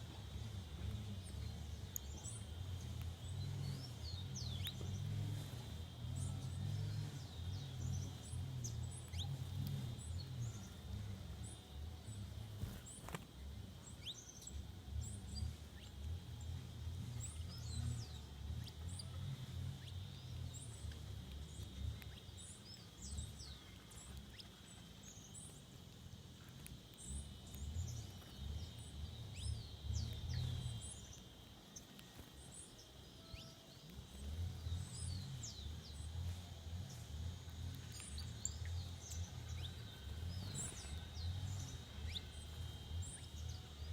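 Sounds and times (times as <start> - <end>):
birds chirping: 0.0 - 43.9
steady high hum: 0.0 - 43.9.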